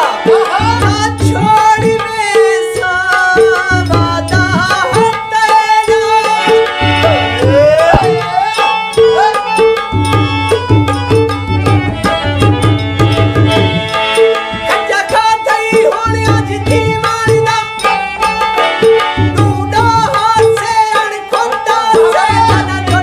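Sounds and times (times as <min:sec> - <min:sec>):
hand drum rhythm: 0:00.0 - 0:23.0
harmonium melody: 0:00.0 - 0:23.0.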